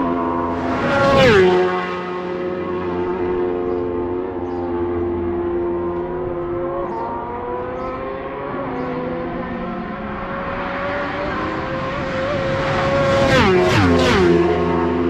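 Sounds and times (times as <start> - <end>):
high-revving motorcycle engine: 0.0 - 15.0.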